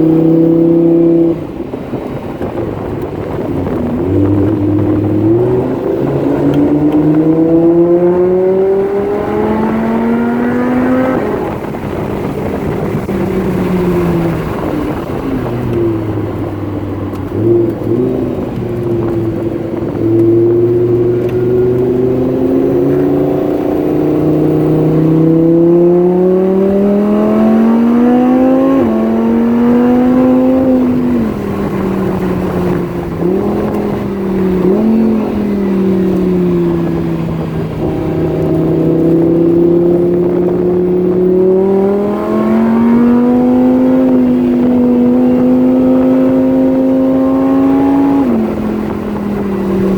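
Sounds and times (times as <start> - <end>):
sports car engine accelerating: 0.0 - 49.9.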